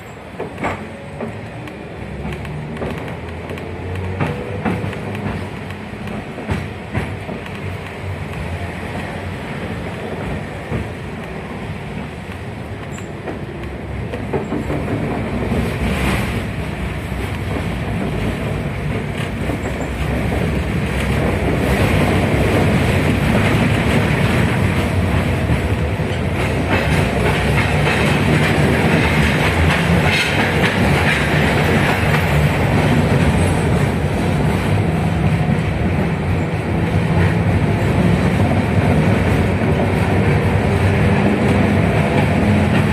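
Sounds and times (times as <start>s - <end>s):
tram running on rails: 0.0s - 42.9s
wheel and rail clatter: 0.0s - 42.9s.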